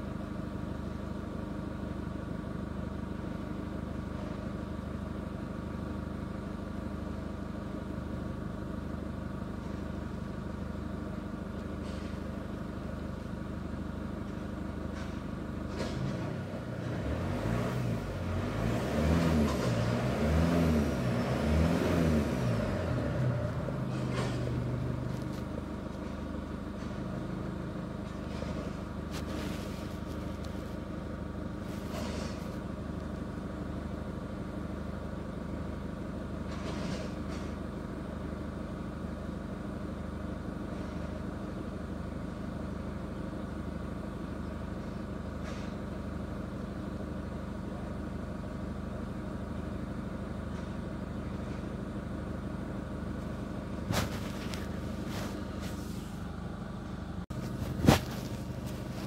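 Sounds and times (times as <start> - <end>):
diesel engine idling: 0.0 - 36.5, 37.6 - 59.0.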